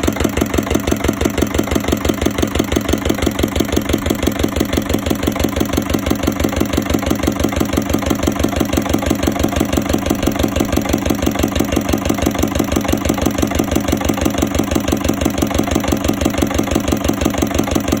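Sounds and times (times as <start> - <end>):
engine idling slowly: 0.0 - 18.0.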